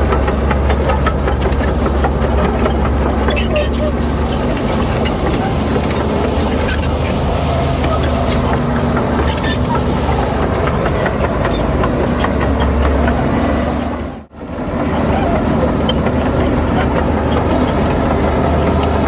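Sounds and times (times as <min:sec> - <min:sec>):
heavy diesel machinery drone: 0:00.0 - 0:19.0.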